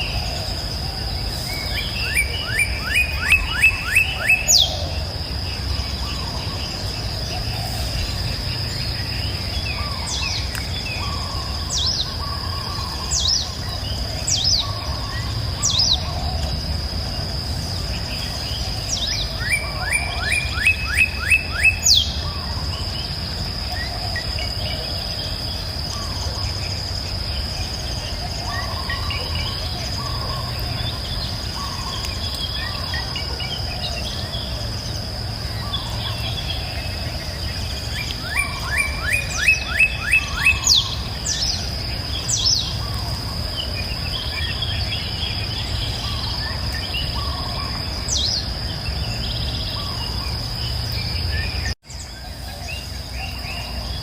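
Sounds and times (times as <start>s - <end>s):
birds singing and calling: 0.0s - 54.0s
high insect drone: 0.0s - 54.0s.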